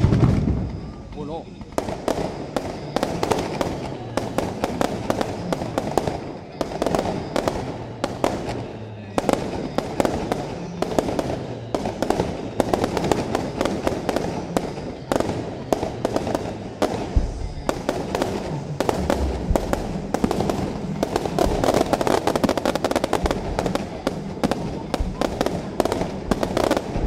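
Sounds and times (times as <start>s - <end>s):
fireworks bangs and crackling: 0.0s - 27.0s
music playing: 0.0s - 27.0s.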